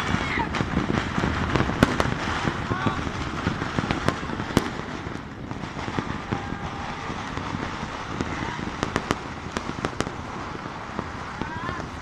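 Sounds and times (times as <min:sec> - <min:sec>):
distant fireworks crackling: 0:00.0 - 0:12.0
sharp firework bangs: 0:00.0 - 0:12.0.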